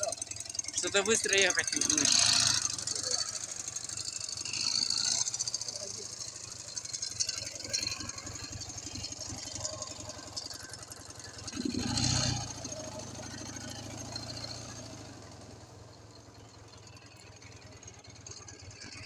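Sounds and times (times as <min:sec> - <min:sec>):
engine rattle: 0:00.0 - 0:19.0
motorcycle engine pulsing: 0:00.0 - 0:19.0.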